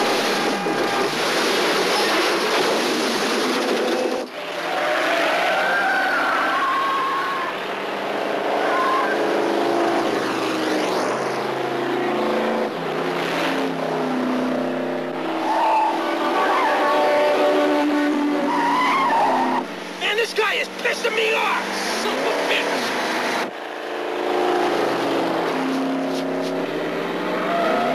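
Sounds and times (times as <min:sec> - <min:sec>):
racing car engines revving: 0:00.0 - 0:27.9
tires squealing: 0:00.0 - 0:27.9.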